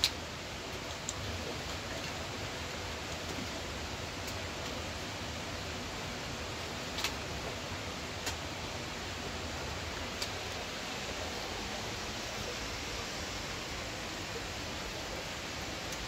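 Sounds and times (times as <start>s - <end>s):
mountain stream flowing: 0.0s - 16.0s.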